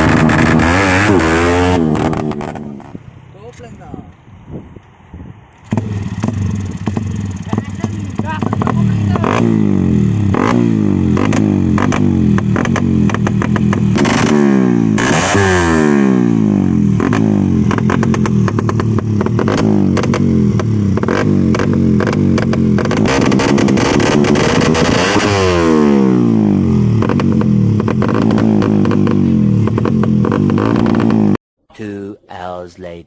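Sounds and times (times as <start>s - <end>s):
motorcycle engine revving: 0.0s - 3.1s, 5.6s - 31.4s.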